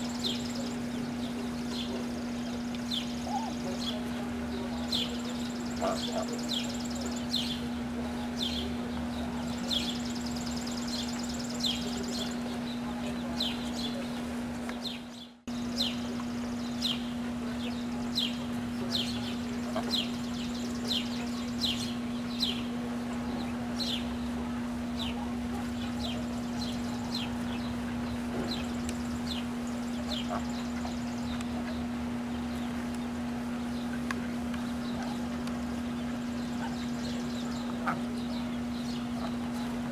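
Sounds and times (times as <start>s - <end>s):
ducklings peeping: 0.0s - 39.9s
steady low hum: 0.0s - 39.9s.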